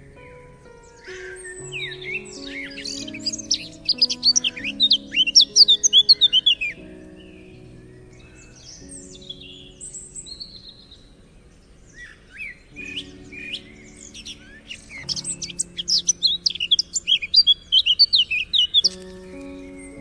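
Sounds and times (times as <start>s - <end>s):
small birds chirping: 0.0s - 20.0s
soft background music: 0.0s - 20.0s.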